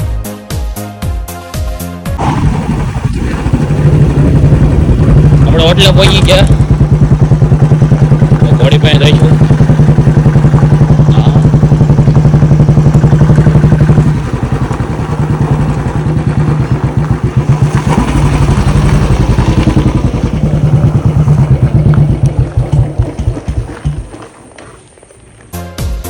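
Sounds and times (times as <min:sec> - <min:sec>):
motorcycle engine thumping: 0:02.2 - 0:25.1.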